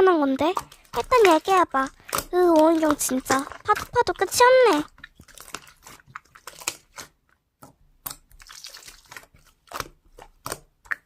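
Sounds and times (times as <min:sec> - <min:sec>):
slime crackling and popping: 0:00.2 - 0:07.2, 0:08.0 - 0:11.0.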